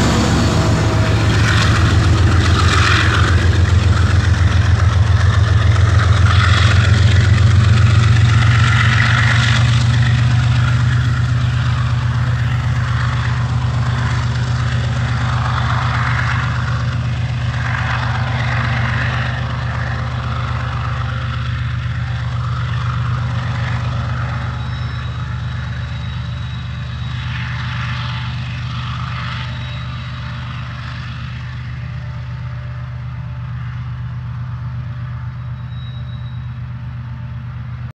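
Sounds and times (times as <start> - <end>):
diesel locomotive engine drone: 0.0 - 37.9
train wheels rumbling on rails: 0.0 - 37.9.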